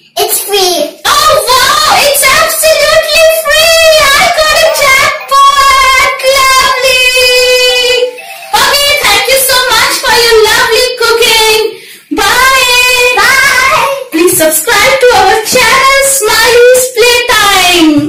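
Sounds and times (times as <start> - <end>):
child singing: 0.2 - 18.0
woman singing along: 1.2 - 18.0.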